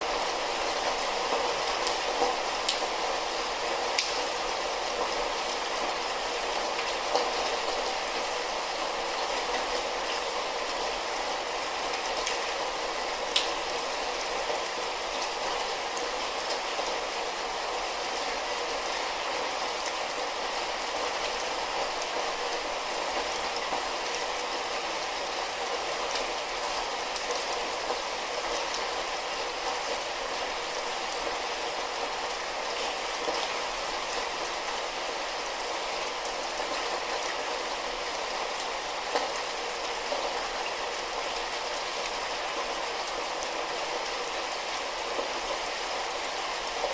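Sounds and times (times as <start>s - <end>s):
light rain hissing: 0.0s - 46.9s.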